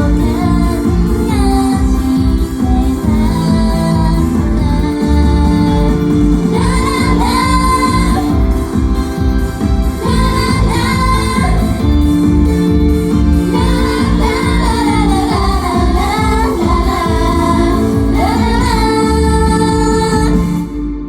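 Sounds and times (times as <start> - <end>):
band backing music: 0.0 - 21.0
woman singing pop song: 0.0 - 21.0.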